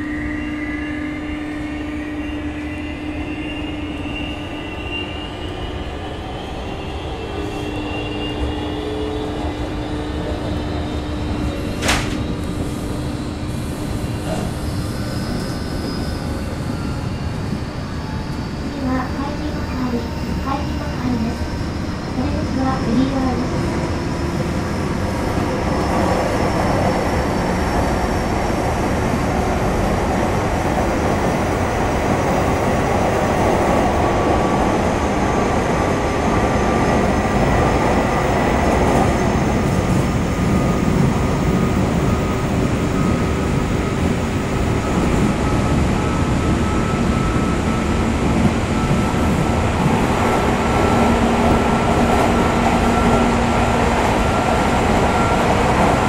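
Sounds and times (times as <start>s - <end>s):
train wheels rumbling on rails: 8.3s - 56.0s.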